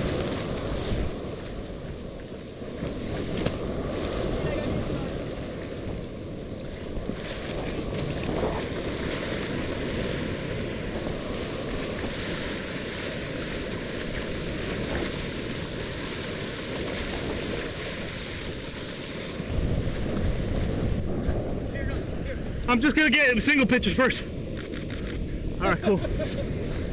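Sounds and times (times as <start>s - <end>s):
surf washing up a beach: 0.0s - 24.6s, 25.2s - 26.9s
wind buffeting microphone: 0.0s - 26.9s.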